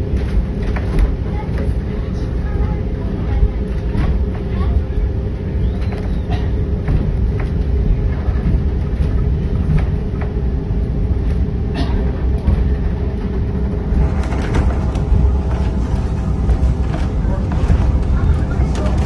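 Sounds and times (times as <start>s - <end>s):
railroad coach rumbling: 0.0s - 19.0s.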